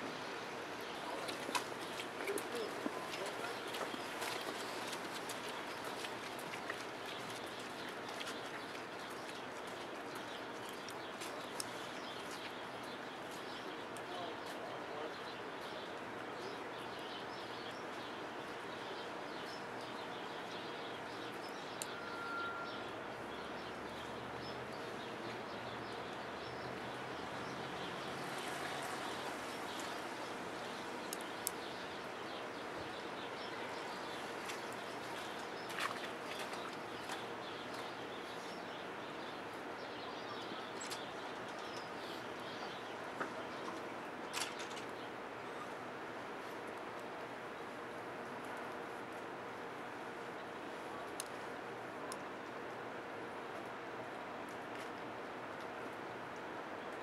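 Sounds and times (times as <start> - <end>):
street background hiss: 0.0 - 57.0
small birds chirping: 0.1 - 48.9.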